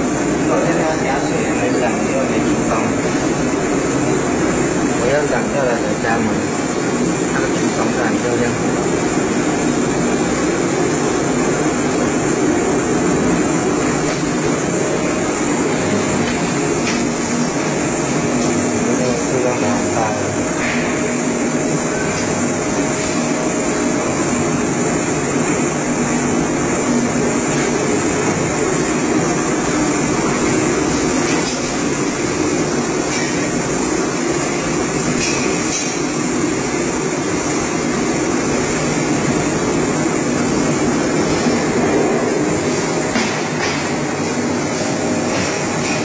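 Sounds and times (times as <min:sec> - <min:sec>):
tank agitator whirring: 0:00.0 - 0:46.0.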